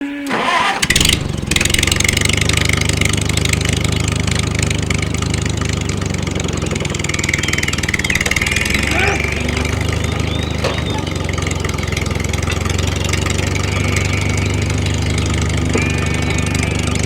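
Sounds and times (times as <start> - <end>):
small motor running: 0.4 - 17.0.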